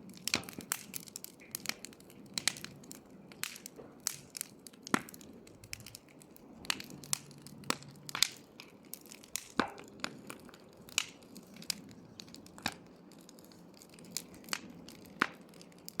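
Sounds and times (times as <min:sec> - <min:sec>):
campfire popping and snapping: 0:00.0 - 0:16.0
hiss of burning fire: 0:00.0 - 0:16.0.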